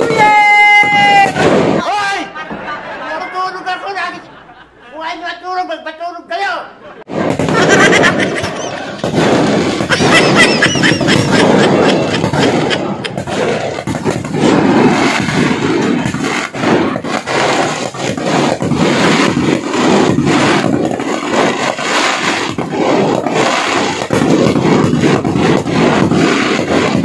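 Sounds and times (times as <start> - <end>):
fireworks bangs and crackles: 0.0 - 2.7, 7.1 - 27.0.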